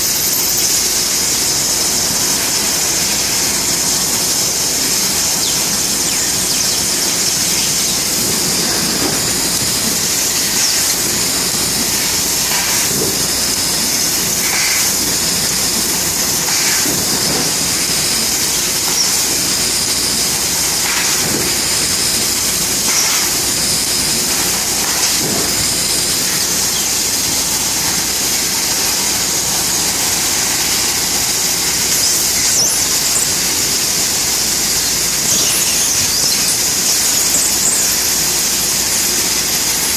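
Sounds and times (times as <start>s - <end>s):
laser cutting machine hissing: 0.0s - 39.9s.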